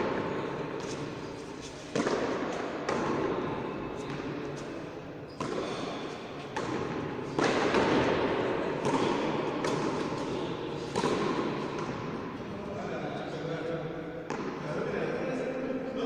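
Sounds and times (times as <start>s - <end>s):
ball smacking wall with echo: 0.0s - 12.5s, 13.9s - 15.2s.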